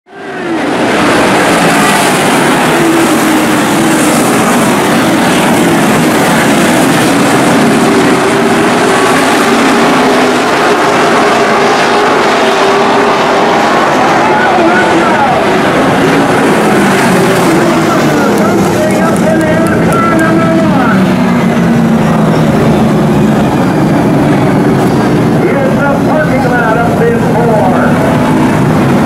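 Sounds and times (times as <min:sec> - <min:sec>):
race car engines at full throttle: 0:00.1 - 0:29.0.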